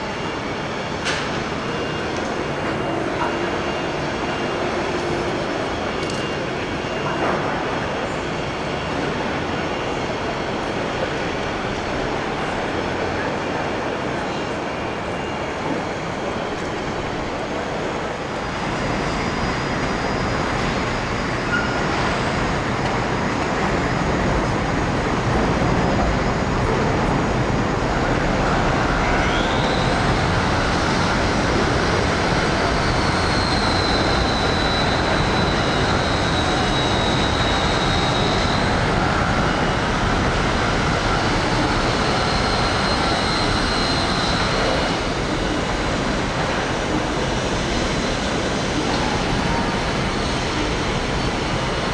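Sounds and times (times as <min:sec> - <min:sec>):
city noise: 0:00.0 - 0:51.9.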